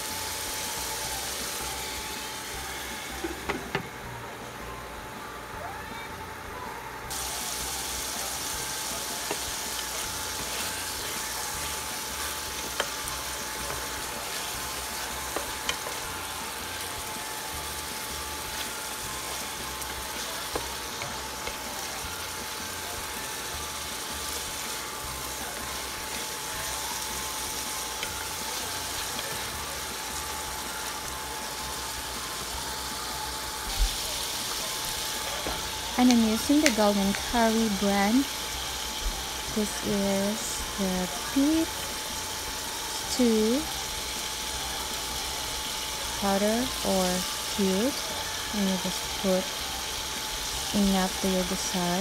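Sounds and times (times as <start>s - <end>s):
food sizzling in a pan: 0.0s - 4.0s, 7.1s - 52.0s.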